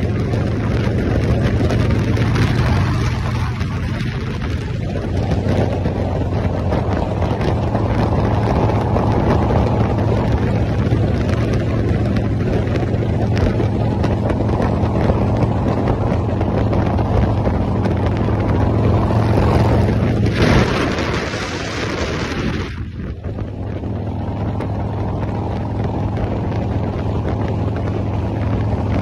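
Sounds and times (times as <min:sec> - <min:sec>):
motorcycle engine running: 0:00.0 - 0:29.0
road noise: 0:00.0 - 0:29.0
wind rushing over microphone: 0:00.0 - 0:29.0.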